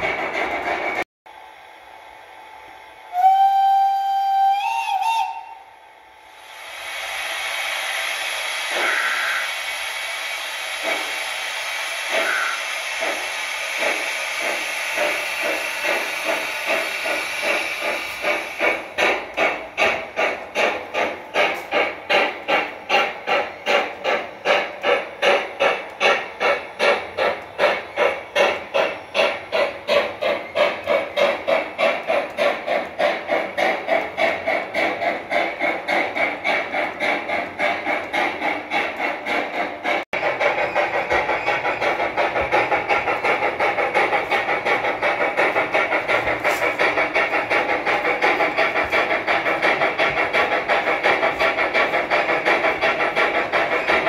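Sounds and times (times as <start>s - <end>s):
steam locomotive chuffs: 0.0s - 54.0s
steam hiss: 1.5s - 54.0s.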